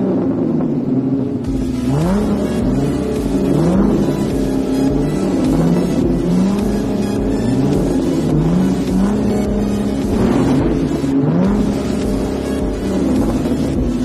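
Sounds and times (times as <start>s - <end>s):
car engine revving: 0.0s - 14.0s
low steady rumble: 0.0s - 14.0s.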